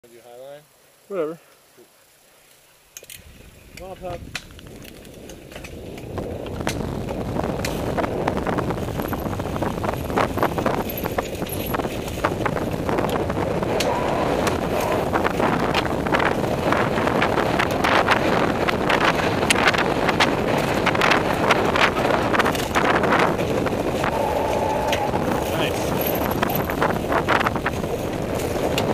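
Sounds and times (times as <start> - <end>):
bike tyres rolling on dirt: 2.2 - 28.9
bike clicks and rattles: 2.5 - 14.0, 14.7 - 24.0, 24.9 - 28.9
wind rushing over microphone: 3.2 - 28.9.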